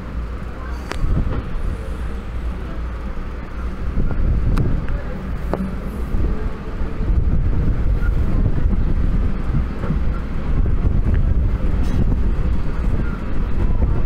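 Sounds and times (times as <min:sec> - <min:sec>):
train wheels rumbling on track: 0:00.0 - 0:14.0
wind noise on microphone: 0:00.0 - 0:14.0.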